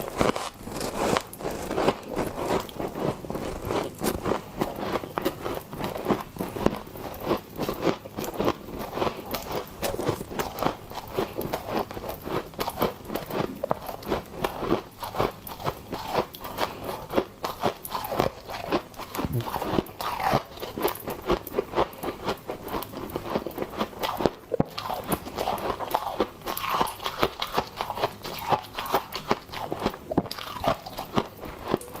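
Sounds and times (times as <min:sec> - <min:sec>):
popping candy crunching: 0:00.0 - 0:32.0.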